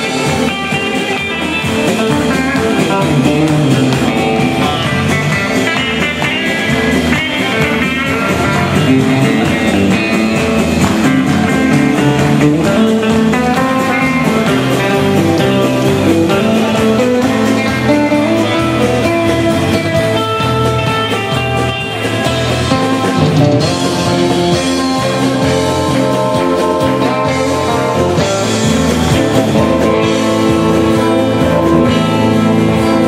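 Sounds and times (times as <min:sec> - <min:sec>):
guitar: 0:00.0 - 0:33.0
live band playing: 0:00.0 - 0:33.0.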